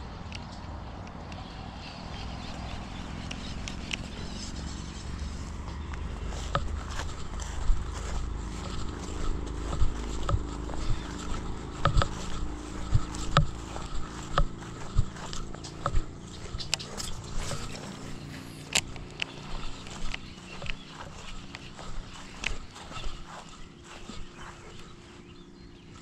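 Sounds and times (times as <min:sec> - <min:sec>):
footsteps on grass: 0:02.2 - 0:26.0.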